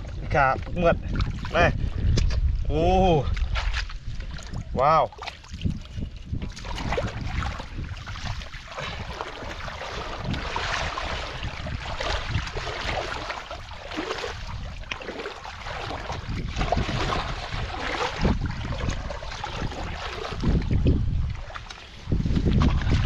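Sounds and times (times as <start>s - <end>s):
hands splashing in muddy water: 3.3s - 23.0s.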